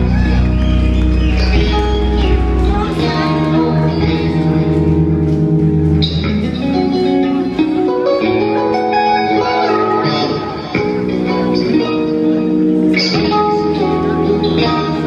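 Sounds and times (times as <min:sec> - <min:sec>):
drums: 0:00.0 - 0:15.0
electric guitars: 0:00.0 - 0:15.0.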